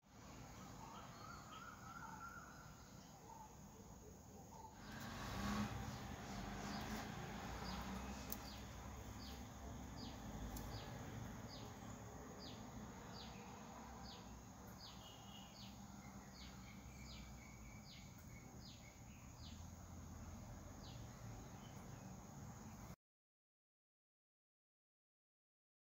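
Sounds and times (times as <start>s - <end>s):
bird chirping: 0.1s - 22.9s.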